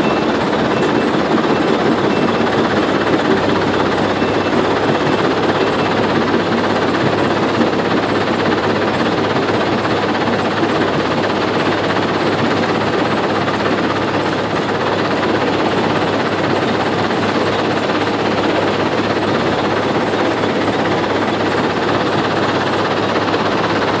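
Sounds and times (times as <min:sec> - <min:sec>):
excavator diesel engine rumbling: 0:00.0 - 0:24.0.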